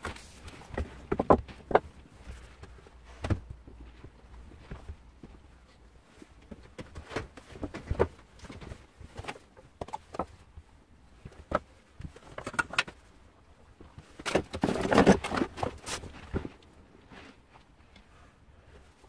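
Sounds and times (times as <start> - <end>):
clatter and rummaging: 0.0 - 5.4, 6.0 - 17.8.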